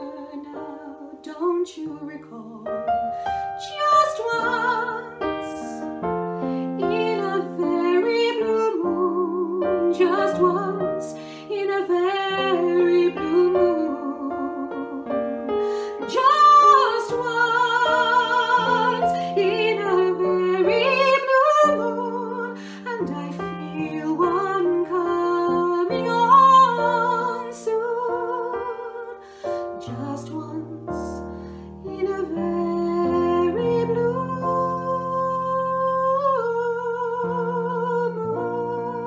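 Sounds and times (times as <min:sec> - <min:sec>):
digital piano: 0:00.0 - 0:39.0
woman singing a slow song: 0:00.0 - 0:39.0.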